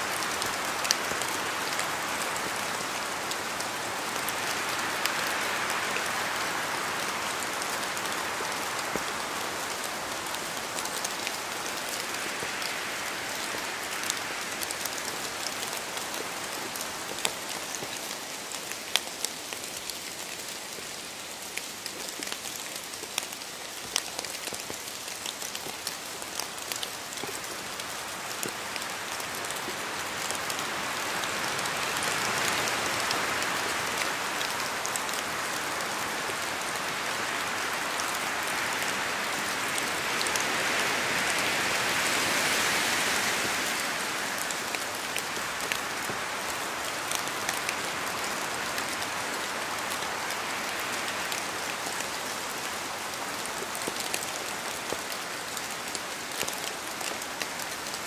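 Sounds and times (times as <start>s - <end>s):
rain falling: 0.0s - 58.0s
raindrops ticking on a surface: 0.0s - 58.0s.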